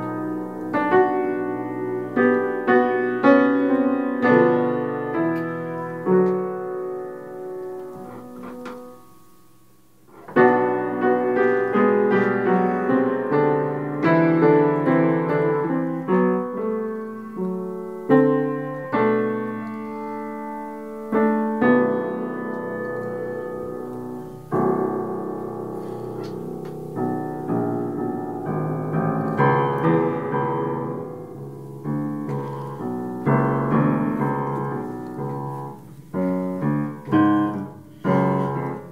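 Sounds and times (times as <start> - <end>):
solo piano chords: 0.0 - 38.9.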